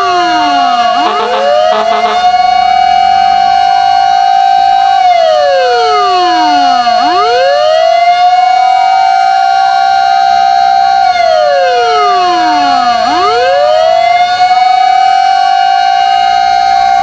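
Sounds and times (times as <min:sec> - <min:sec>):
fire engine siren wailing: 0:00.0 - 0:17.0.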